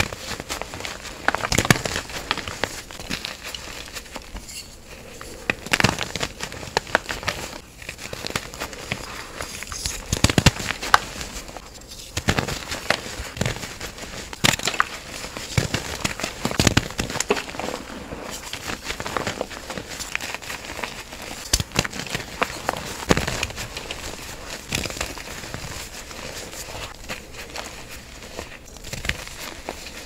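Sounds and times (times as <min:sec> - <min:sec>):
hands crushing chalk blocks: 0:00.0 - 0:30.0.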